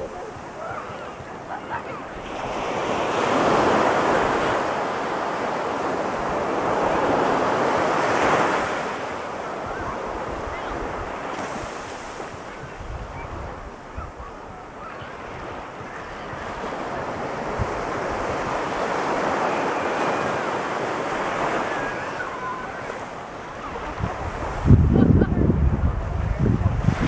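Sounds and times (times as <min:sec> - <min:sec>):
ocean surf breaking on beach: 0:00.0 - 0:27.0.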